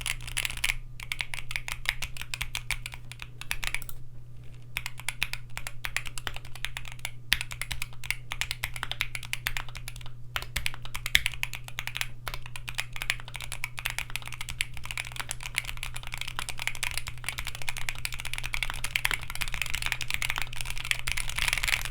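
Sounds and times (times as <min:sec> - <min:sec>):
fast keyboard typing: 0:00.0 - 0:04.0, 0:04.7 - 0:21.9.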